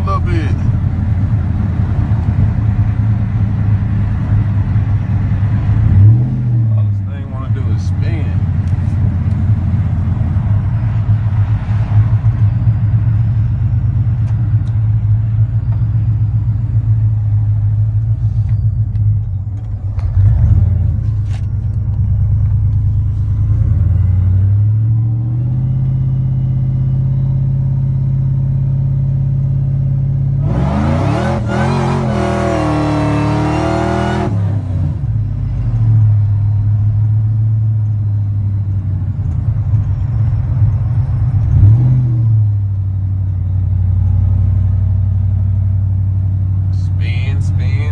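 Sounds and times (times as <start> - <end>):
truck engine running: 0.0 - 30.4, 34.0 - 47.9.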